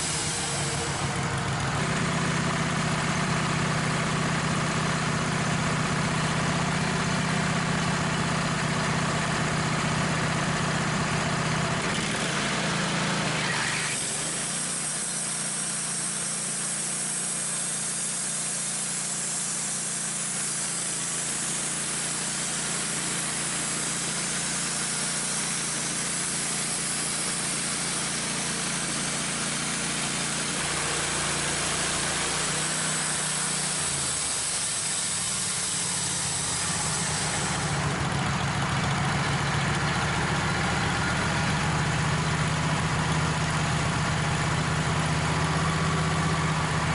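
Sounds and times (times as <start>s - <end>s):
saw blade hissing through log: 0.0s - 38.8s
band sawmill engine running: 0.0s - 46.9s.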